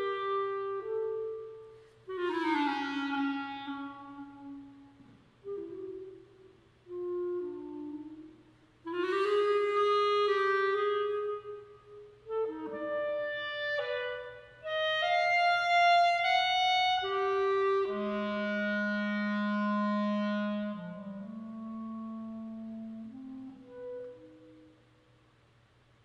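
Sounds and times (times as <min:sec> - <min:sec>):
solo clarinet: 0:00.0 - 0:26.0.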